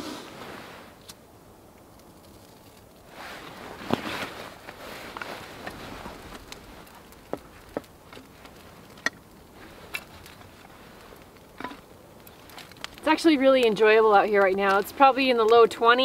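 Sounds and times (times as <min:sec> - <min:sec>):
soft rustling: 0:00.0 - 0:01.2, 0:02.1 - 0:16.0
kindling sticks clacking on wood: 0:01.8 - 0:16.0.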